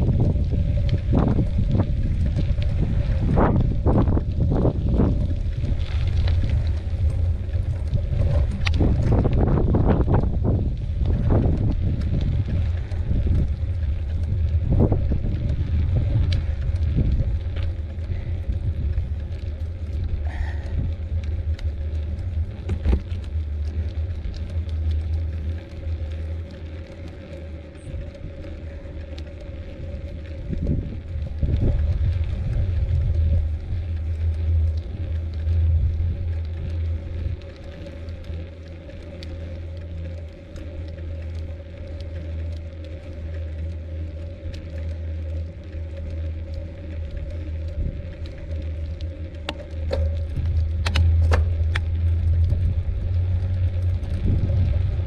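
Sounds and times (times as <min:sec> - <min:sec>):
bike rattles and clicks: 0:00.0 - 0:55.0
faint steady hum: 0:00.0 - 0:55.0
wind buffeting microphone: 0:00.0 - 0:55.0.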